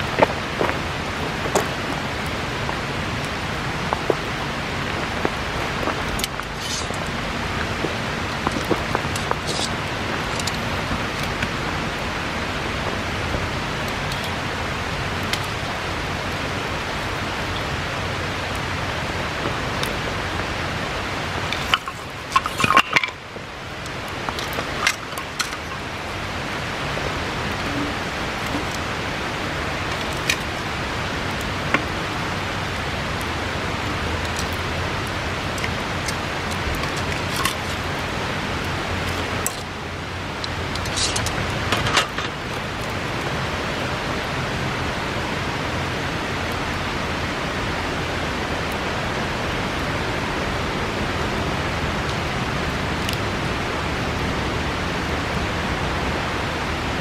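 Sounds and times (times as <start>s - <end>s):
bonfire crackling: 0.0s - 57.0s
river rushing: 0.0s - 57.0s.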